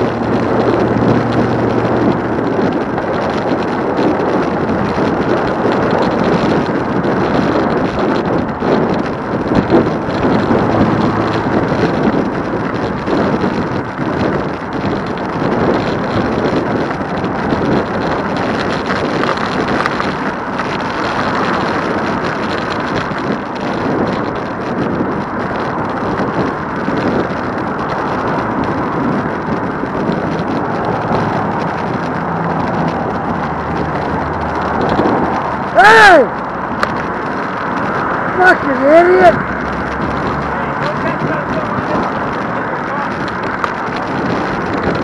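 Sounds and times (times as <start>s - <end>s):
passing road traffic: 0.0s - 45.0s
wind on microphone: 0.0s - 45.0s.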